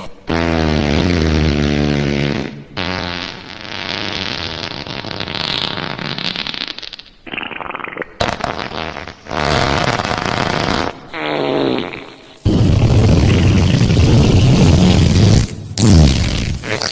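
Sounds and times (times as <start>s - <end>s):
wet fart sound effects: 0.0s - 16.9s.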